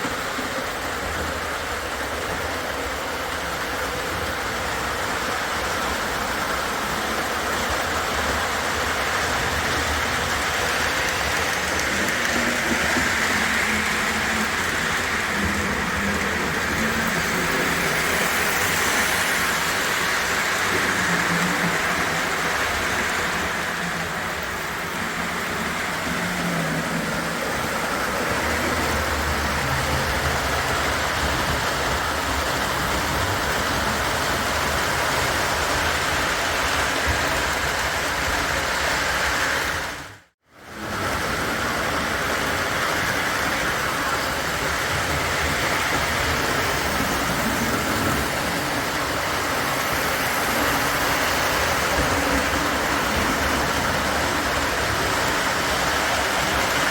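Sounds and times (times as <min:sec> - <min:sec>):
model train motor hum: 0:00.0 - 0:56.9
wheels rumbling on rail: 0:00.0 - 0:56.9.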